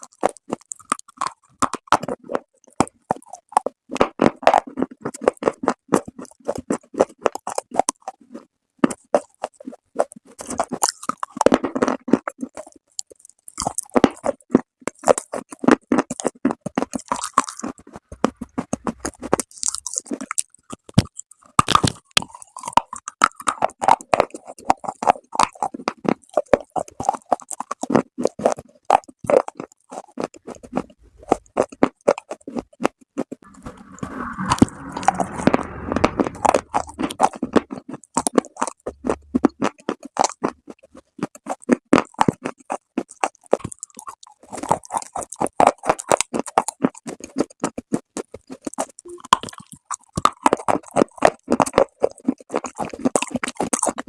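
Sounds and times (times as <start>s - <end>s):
chewing brittle clay: 0.0s - 54.0s.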